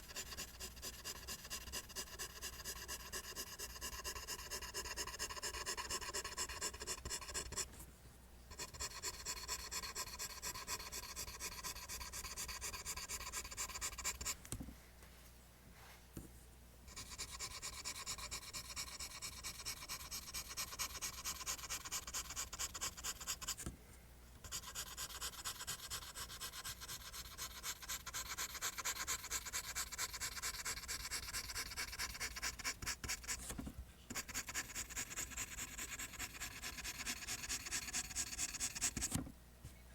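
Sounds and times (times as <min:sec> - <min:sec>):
pencil scratching on paper: 0:00.0 - 0:07.8, 0:08.5 - 0:14.4, 0:16.9 - 0:23.7, 0:24.4 - 0:39.2.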